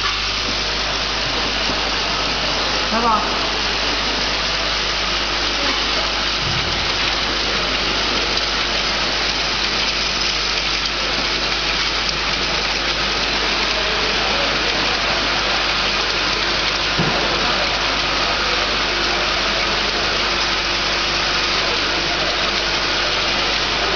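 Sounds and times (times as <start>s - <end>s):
vial filling machine running: 0.0s - 23.9s.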